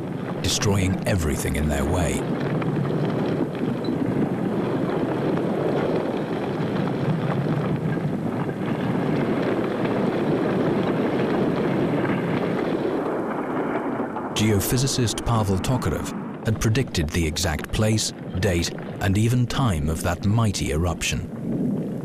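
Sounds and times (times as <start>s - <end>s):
lava fountain rushing: 0.0s - 20.5s.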